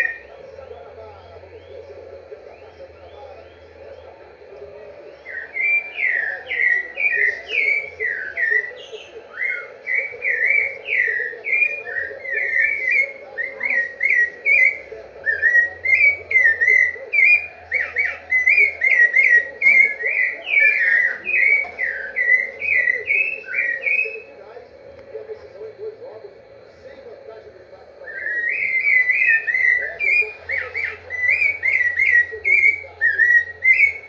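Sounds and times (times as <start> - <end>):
thrush singing whistled notes: 0.0 - 34.0.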